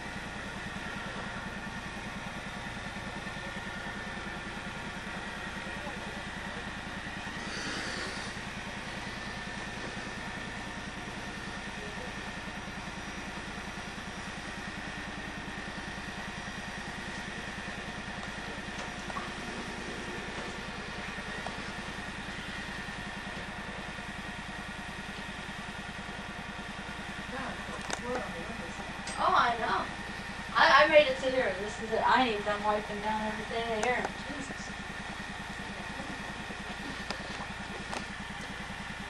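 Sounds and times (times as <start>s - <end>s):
motor humming with low pulse: 0.0s - 39.0s.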